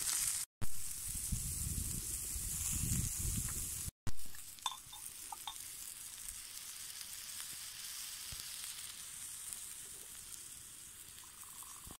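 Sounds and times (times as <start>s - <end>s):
wood fire crackles: 0.0s - 11.9s
tomatoes sizzling on hot stone: 0.0s - 12.0s.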